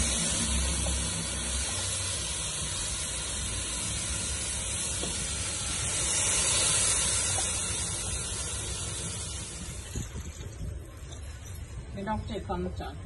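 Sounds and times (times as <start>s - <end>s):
liquid boiling and hissing in pot: 0.0s - 12.3s.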